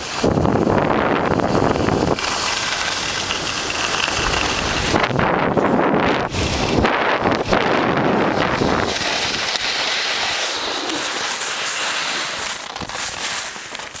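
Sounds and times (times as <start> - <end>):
wind buffeting microphone: 0.0 - 11.4
skis scraping over snow: 0.0 - 14.0.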